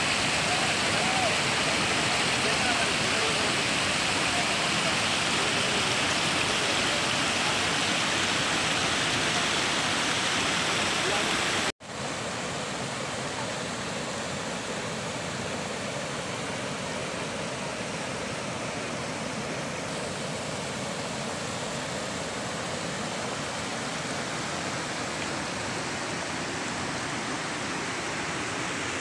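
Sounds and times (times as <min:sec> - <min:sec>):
floodwater rushing over rocks: 0:00.0 - 0:29.0.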